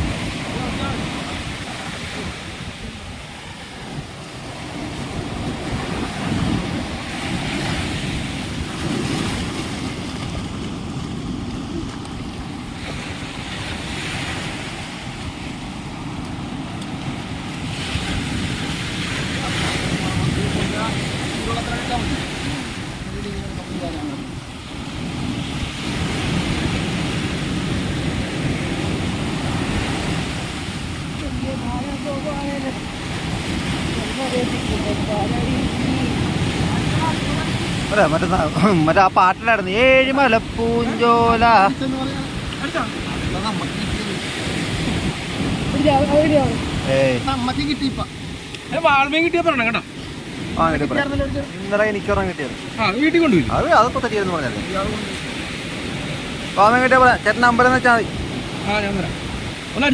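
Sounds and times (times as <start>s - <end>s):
sea surf breaking: 0.0s - 59.9s
wind buffeting microphone: 0.0s - 59.9s.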